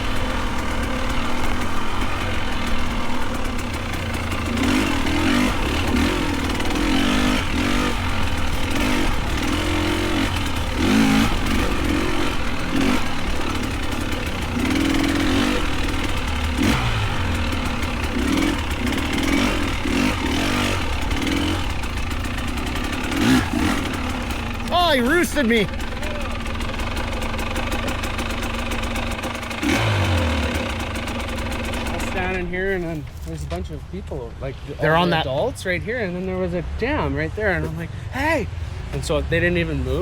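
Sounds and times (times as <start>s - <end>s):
dirt bike engines revving past: 0.0s - 33.7s, 34.7s - 35.7s.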